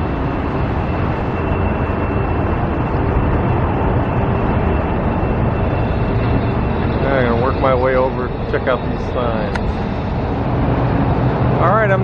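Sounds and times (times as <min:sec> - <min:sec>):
high whine: 0:00.0 - 0:12.0
road traffic rumble: 0:00.0 - 0:12.0.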